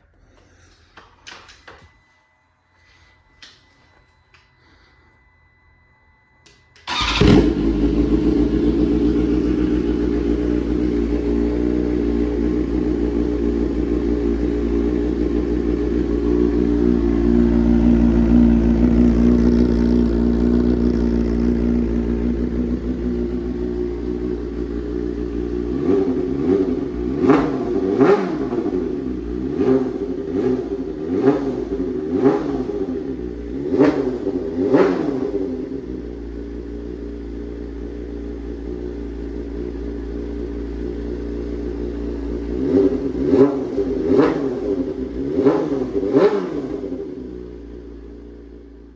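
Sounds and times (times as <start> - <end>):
motorcycle engine idling and revving: 6.8 - 48.9.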